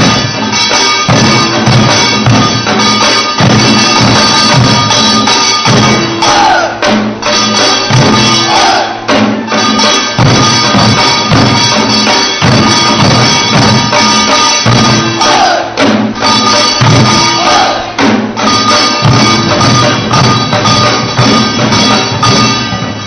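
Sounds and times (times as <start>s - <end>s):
barrel drums beaten in rhythm: 0.0s - 23.0s.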